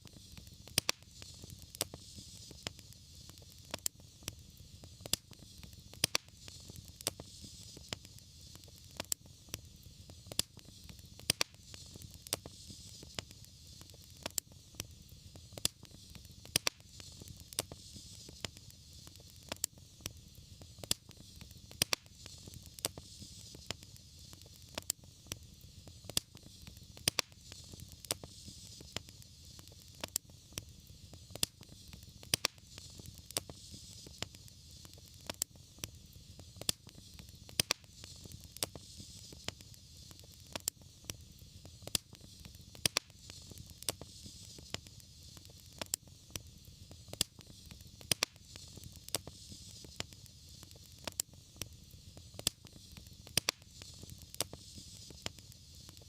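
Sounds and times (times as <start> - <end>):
sharp pops of fire: 0.0 - 56.0
wood fire crackling: 0.0 - 56.0.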